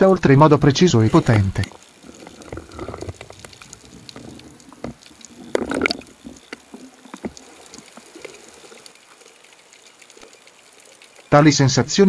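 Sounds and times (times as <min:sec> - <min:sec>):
underwater clicks and crackles: 0:00.6 - 0:11.4.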